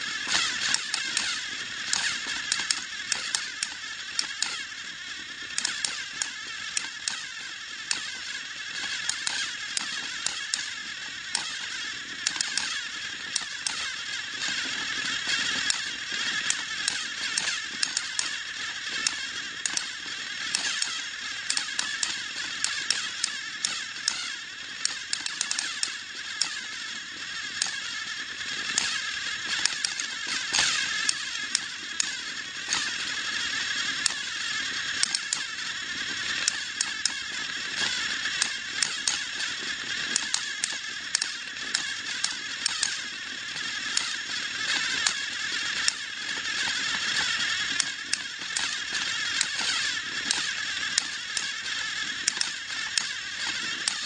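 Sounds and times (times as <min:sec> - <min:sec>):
sharp clicks on track: 0:00.0 - 0:54.0
toy train motor whirring: 0:00.0 - 0:54.0.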